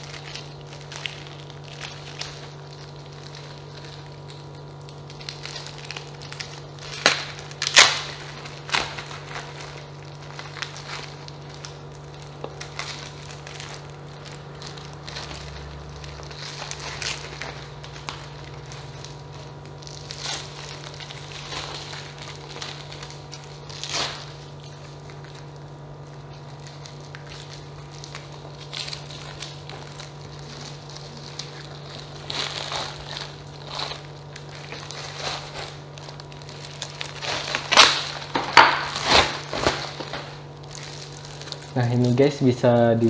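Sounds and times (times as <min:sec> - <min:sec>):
plastic packaging crinkling: 0:00.0 - 0:43.0
steady low hum: 0:00.0 - 0:43.0.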